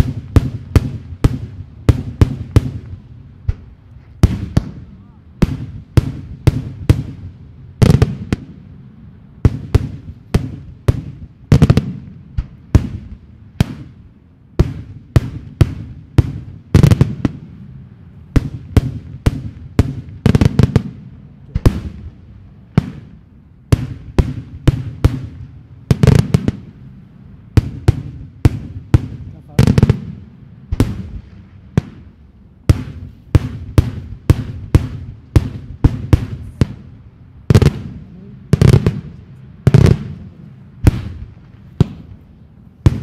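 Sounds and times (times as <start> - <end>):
fireworks bursts and bangs: 0.0 - 8.6, 9.4 - 17.6, 18.3 - 26.8, 27.5 - 43.0.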